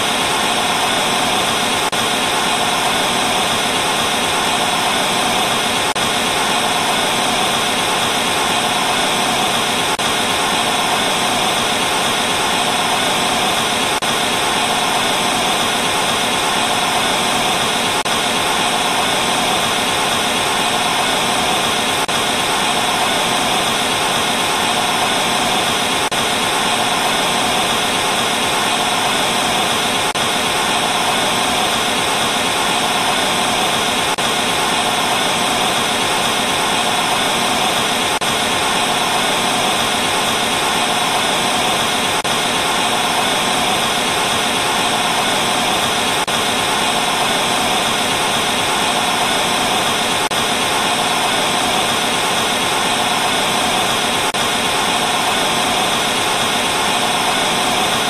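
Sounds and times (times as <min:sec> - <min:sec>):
tv static hiss: 0:00.0 - 0:58.0.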